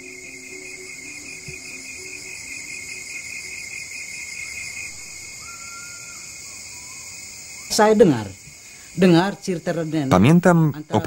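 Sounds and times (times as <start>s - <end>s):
fast pulsing insect trill: 0.0s - 11.0s
high buzzing hiss: 0.0s - 11.0s
insects chirring: 0.0s - 11.0s.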